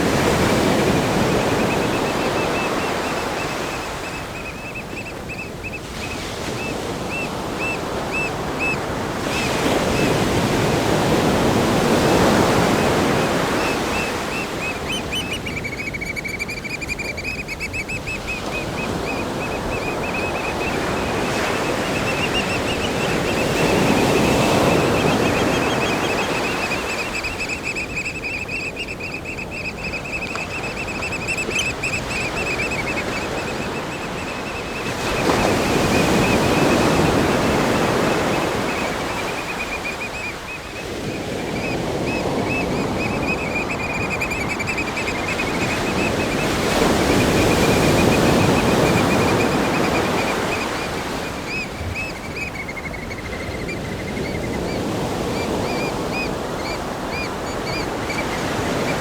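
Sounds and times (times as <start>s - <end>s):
ocean waves breaking: 0.0s - 15.5s, 17.1s - 52.4s.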